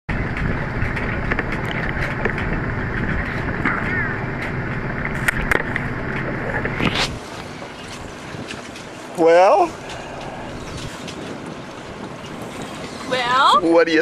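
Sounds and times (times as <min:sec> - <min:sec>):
strong wind on microphone: 0:00.1 - 0:14.0.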